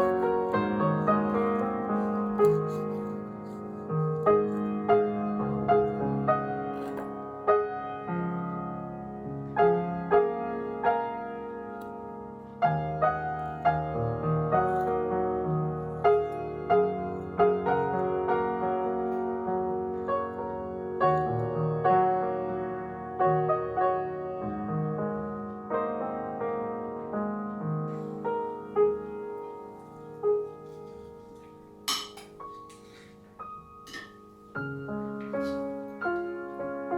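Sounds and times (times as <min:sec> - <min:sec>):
gentle solo piano: 0:00.0 - 0:36.9.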